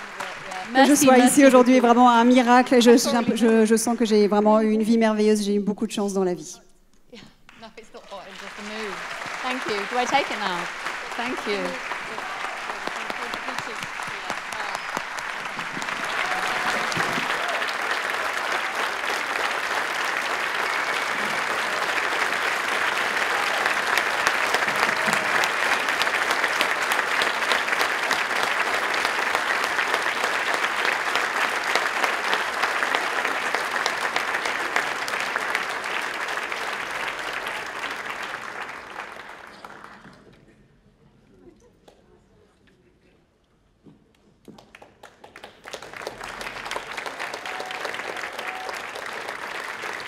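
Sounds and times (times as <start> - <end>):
audience applauding: 0.0 - 4.4, 7.5 - 40.5, 44.5 - 50.0.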